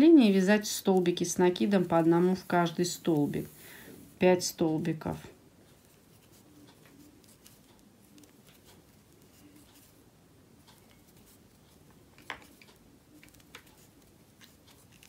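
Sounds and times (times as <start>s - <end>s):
crochet hook ticks and rustles: 0.2s - 15.0s.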